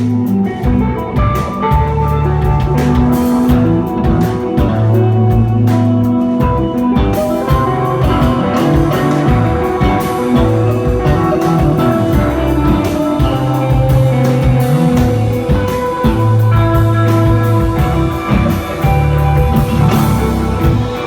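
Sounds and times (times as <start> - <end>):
bass notes: 0.0 - 21.0
droning guitar: 0.0 - 21.0
drum kit: 0.0 - 21.0.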